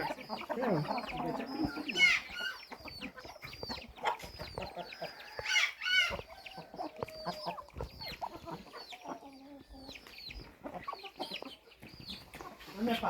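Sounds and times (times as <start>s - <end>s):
chicken squawk: 0.0s - 11.6s
chickens clucking: 0.0s - 13.0s.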